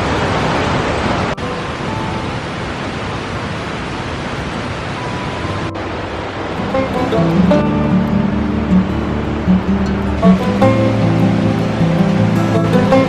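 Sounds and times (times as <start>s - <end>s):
creek water rushing: 0.1s - 13.0s.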